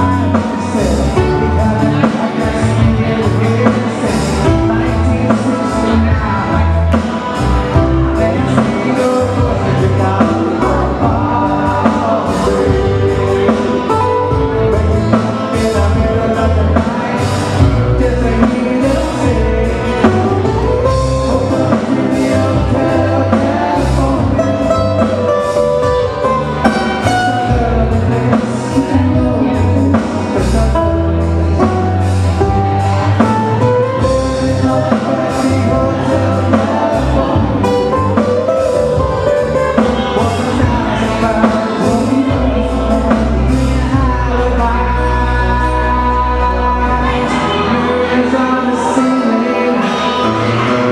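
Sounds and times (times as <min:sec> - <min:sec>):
live band playing: 0:00.0 - 0:50.9
person singing: 0:00.0 - 0:50.9.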